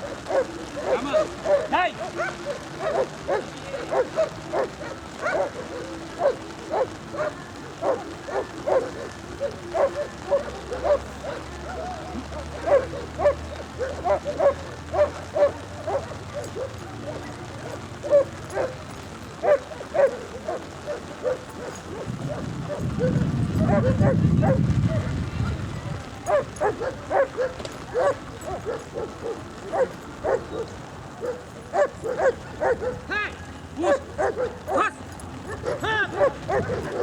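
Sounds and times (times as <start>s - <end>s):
dog barking: 0.0s - 18.8s, 19.4s - 25.2s, 26.3s - 33.2s, 33.8s - 37.0s.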